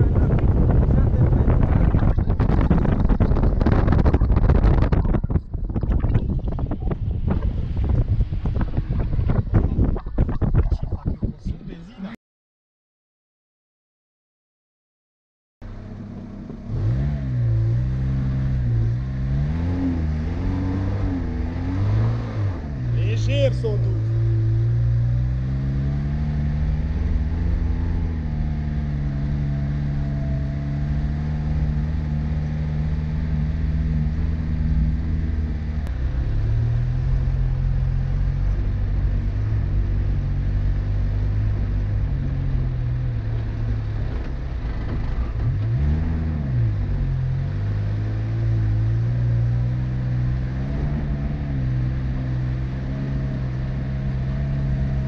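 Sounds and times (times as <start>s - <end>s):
car engine driving: 0.0s - 12.2s, 15.6s - 55.0s.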